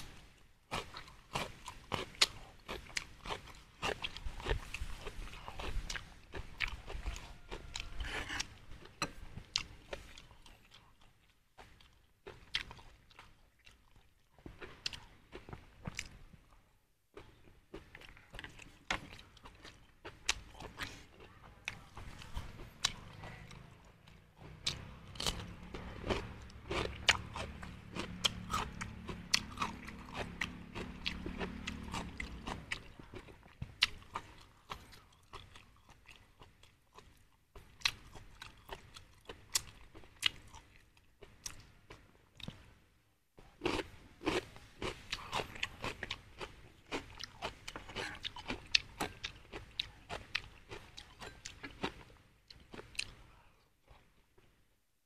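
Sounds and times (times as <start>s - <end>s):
person chewing and crunching: 0.0s - 42.8s, 43.4s - 54.2s.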